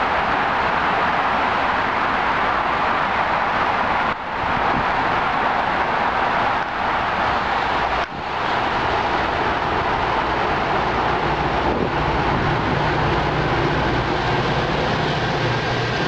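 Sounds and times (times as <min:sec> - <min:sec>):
steady rushing noise: 0:00.0 - 0:16.0
train low drone: 0:00.0 - 0:16.0.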